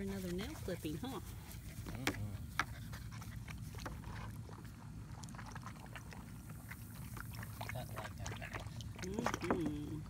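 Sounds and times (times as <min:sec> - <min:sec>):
puppy lapping and splashing water: 0:00.0 - 0:10.0.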